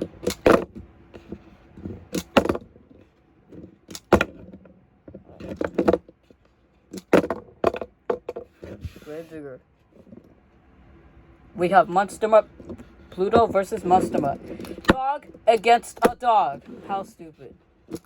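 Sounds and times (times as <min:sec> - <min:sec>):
toy trucks knocking and clattering: 0:00.0 - 0:09.0, 0:12.2 - 0:18.0.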